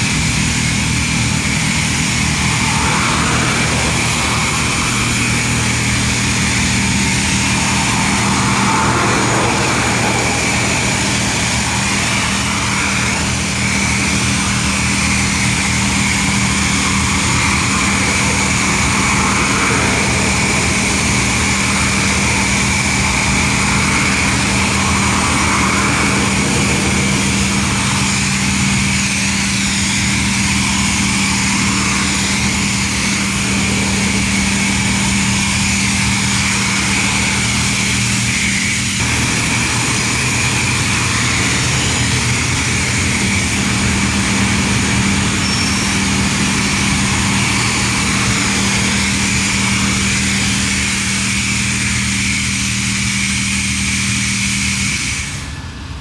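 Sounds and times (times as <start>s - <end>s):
motor humming: 0.0s - 55.1s
even hiss: 0.0s - 55.6s.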